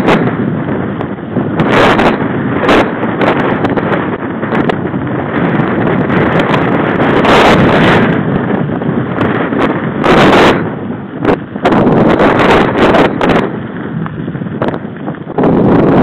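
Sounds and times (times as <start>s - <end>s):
tyres rumbling on gravel: 0.0s - 16.0s
wind on microphone: 0.0s - 16.0s.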